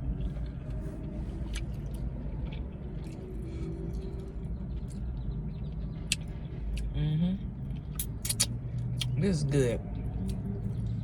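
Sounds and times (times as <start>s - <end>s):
person chewing food: 0.0s - 6.9s, 7.6s - 9.2s, 10.0s - 10.9s.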